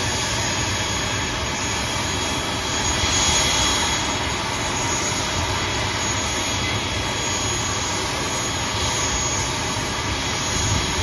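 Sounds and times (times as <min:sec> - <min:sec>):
turboprop engines idling: 0:00.0 - 0:11.0.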